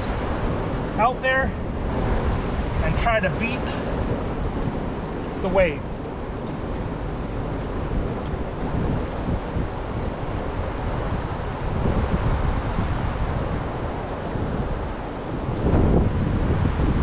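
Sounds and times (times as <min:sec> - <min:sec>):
rough churning water: 0:00.0 - 0:17.0
wind buffeting microphone: 0:00.0 - 0:17.0.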